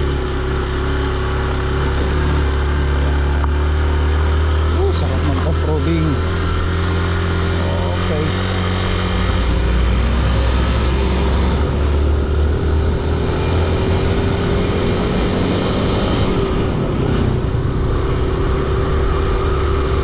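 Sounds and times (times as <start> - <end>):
motorcycle engine drone: 0.0 - 20.0
road and wind noise: 0.0 - 20.0.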